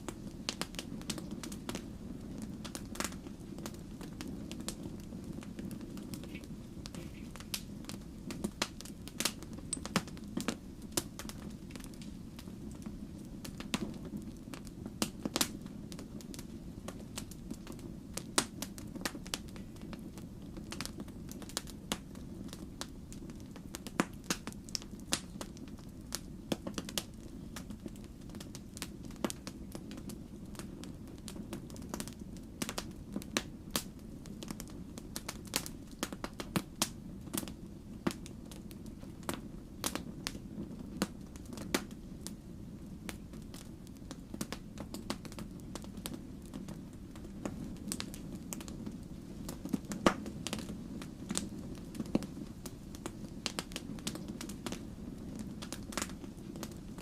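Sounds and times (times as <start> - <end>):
low steady fire rumble: 0.0 - 57.0
wood fire crackling and popping: 0.0 - 57.0.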